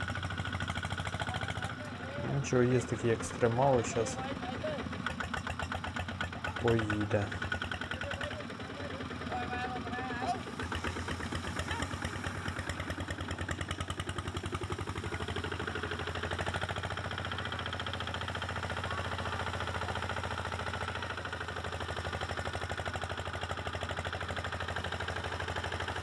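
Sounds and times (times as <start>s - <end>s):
diesel engine chugging: 0.0s - 26.0s.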